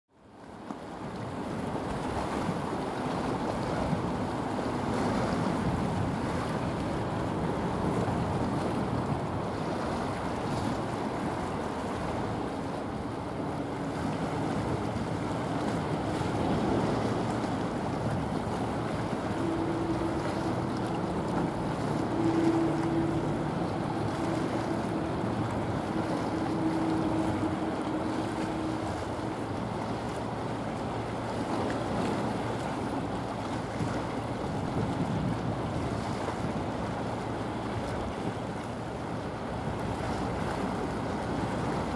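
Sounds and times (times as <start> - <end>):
water rushing: 0.2 - 41.9
ship drone: 0.3 - 41.9
wind on microphone: 1.1 - 41.9.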